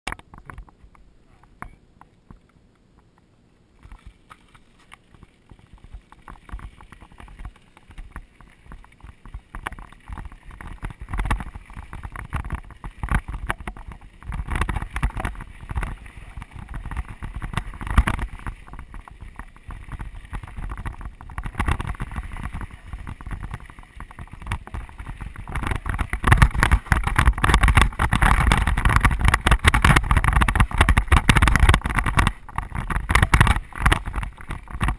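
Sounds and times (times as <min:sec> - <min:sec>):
bike tyres crunching on gravel: 0:03.8 - 0:34.9
bike chain and frame rattling: 0:05.4 - 0:34.9.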